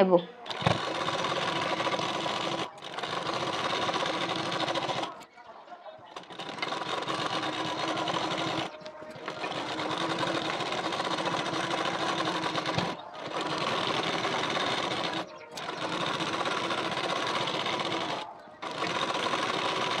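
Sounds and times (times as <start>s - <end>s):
sewing machine running: 0.4s - 5.2s, 6.1s - 20.0s.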